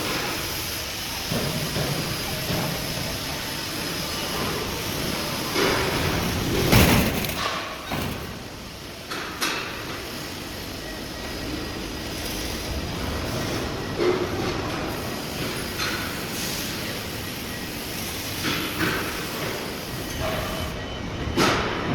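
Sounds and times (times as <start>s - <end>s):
workshop machinery running: 0.0s - 21.9s.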